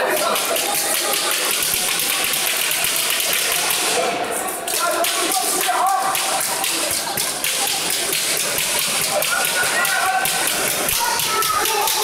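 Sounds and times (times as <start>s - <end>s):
crowd talking and shouting: 0.0s - 12.0s.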